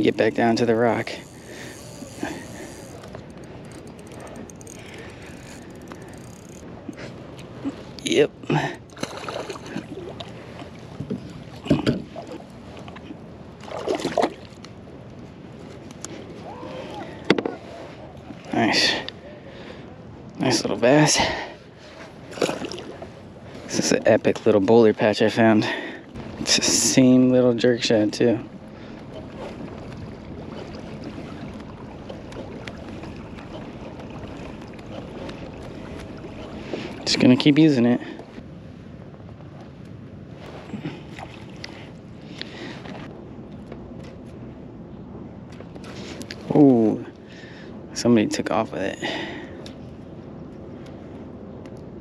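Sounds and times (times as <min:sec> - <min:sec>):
water moving along hull: 0:00.0 - 0:52.0.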